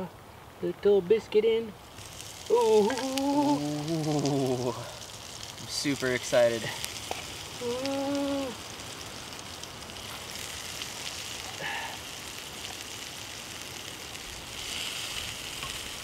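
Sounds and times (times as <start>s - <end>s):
biscuits sizzling in fat: 1.7s - 16.0s.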